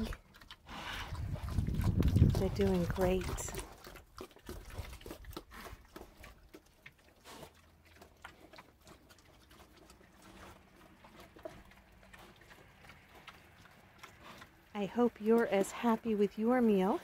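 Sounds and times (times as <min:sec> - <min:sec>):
pigs chewing: 0:00.0 - 0:17.0.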